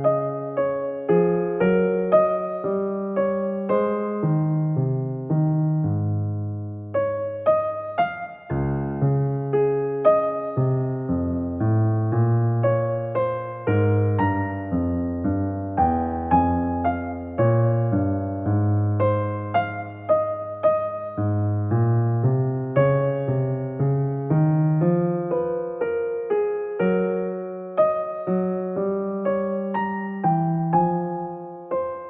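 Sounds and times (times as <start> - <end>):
electric piano music: 0.0 - 32.0.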